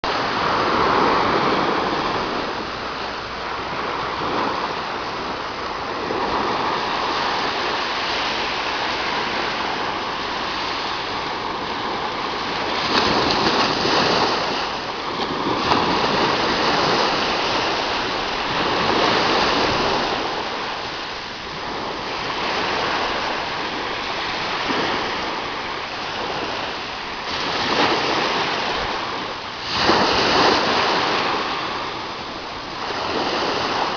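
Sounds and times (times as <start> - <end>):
ocean waves breaking on beach: 0.0 - 33.9.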